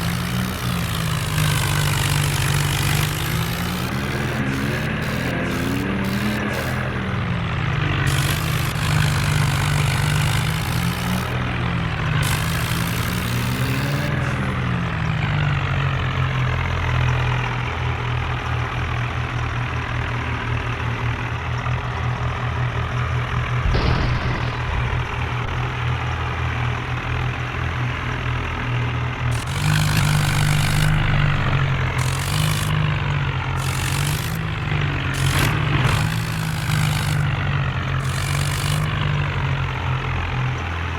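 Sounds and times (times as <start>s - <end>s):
tractor engine running hard: 0.0s - 40.9s.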